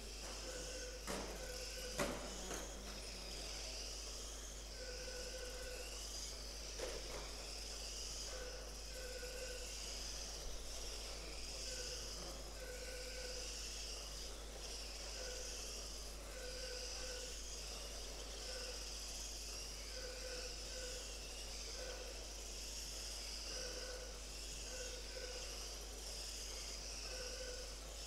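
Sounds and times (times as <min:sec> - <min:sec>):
electric toy car motors whining: 0:00.0 - 0:28.0.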